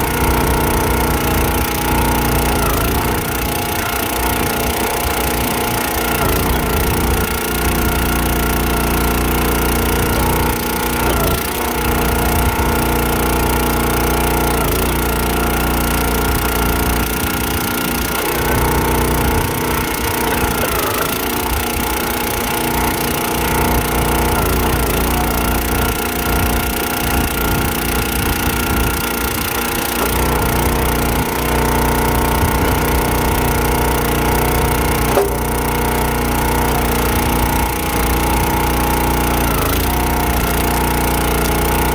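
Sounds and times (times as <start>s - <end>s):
small gas engine running: 0.0s - 41.9s
wood splitting: 0.0s - 41.9s.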